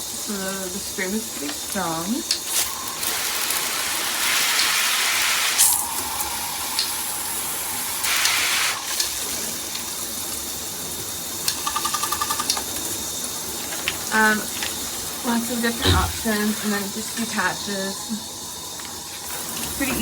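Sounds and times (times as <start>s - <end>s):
shower head spraying water: 0.0s - 20.0s.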